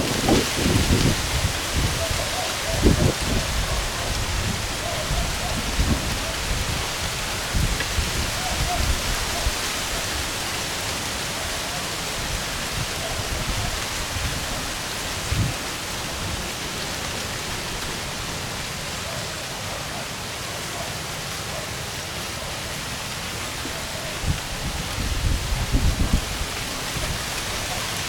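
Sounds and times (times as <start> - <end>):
rain hissing: 0.0 - 28.0.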